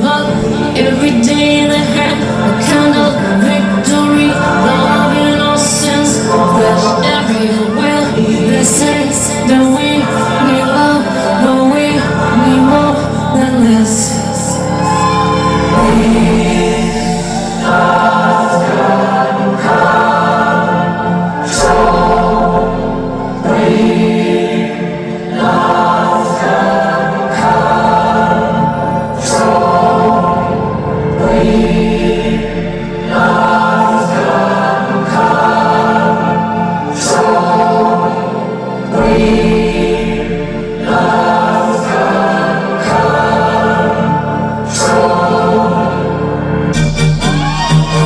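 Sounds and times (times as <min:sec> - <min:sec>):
band backing: 0:00.0 - 0:48.0
choir singing sustained chords: 0:00.0 - 0:48.0.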